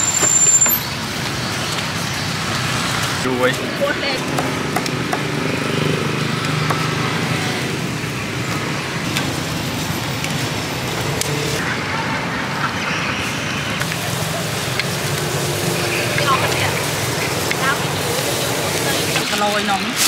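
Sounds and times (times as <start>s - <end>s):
traffic hum: 0.0s - 20.0s.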